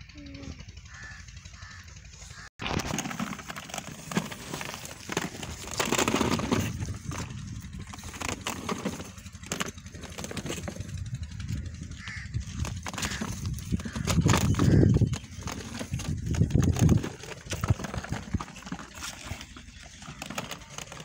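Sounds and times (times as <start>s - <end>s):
plastic wheels rolling on dirt: 0.9s - 21.0s.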